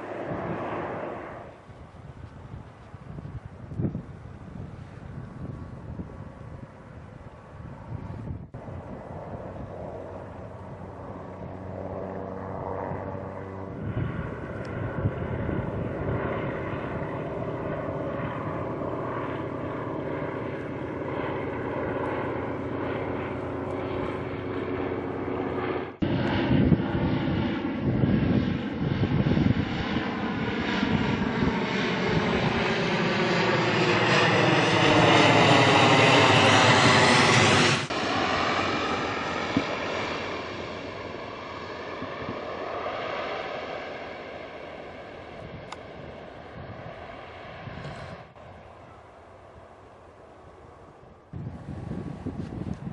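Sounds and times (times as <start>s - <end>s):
propeller aircraft engine: 0.0s - 52.9s.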